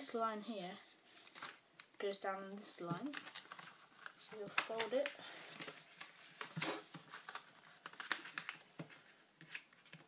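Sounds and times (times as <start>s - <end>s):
paper folding and crinkling: 0.6s - 2.0s, 2.8s - 10.0s.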